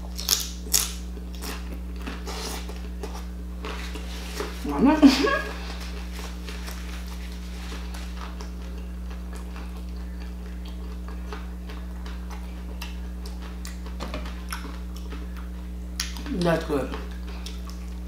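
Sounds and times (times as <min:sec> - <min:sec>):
chewing crunchy food: 0:00.0 - 0:04.7, 0:05.5 - 0:18.0
steady low hum: 0:00.0 - 0:18.0.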